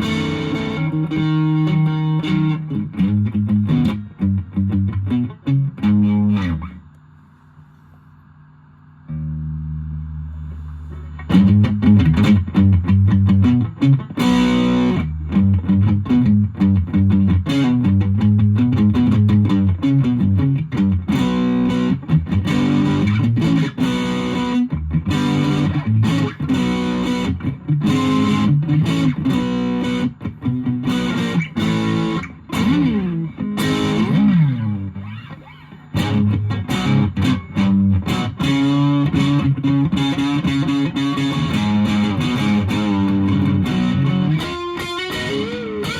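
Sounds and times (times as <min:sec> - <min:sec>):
distorted electric guitar riffs: 0:00.0 - 0:06.9, 0:09.1 - 0:45.9.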